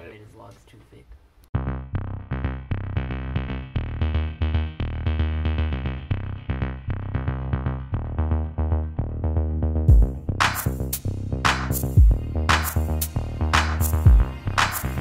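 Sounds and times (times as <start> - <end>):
electronic music with drum-machine beat: 1.6 - 15.0.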